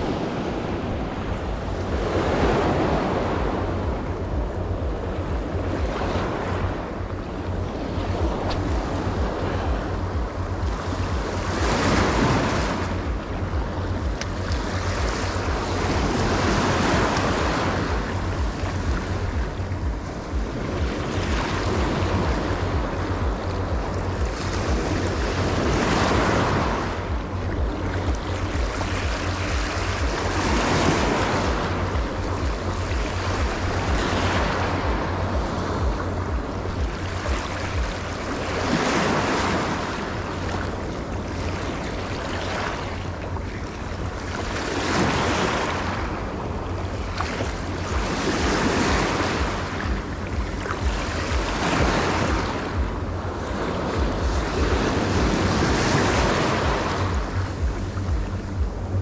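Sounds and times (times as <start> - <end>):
sea waves breaking on shore: 0.0 - 59.0
wind rumbling on microphone: 0.0 - 59.0.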